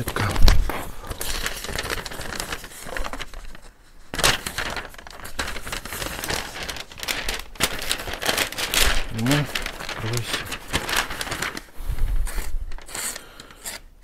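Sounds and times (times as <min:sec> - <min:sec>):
newspaper rustling: 0:00.0 - 0:13.8.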